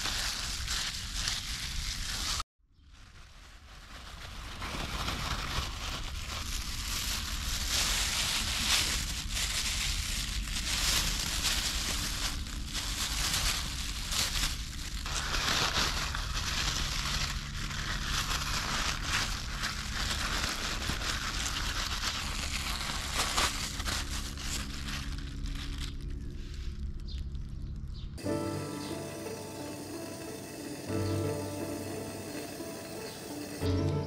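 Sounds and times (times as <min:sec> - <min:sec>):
plastic bag crinkling: 0:00.0 - 0:28.3.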